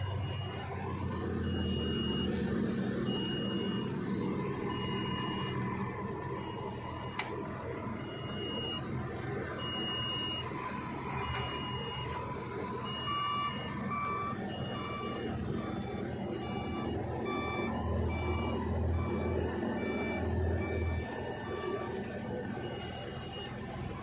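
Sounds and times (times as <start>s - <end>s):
diesel engine noise: 0.0s - 24.0s
lower-pitched reversing alarm: 0.0s - 24.0s
reversing alarm beeping: 0.0s - 24.0s.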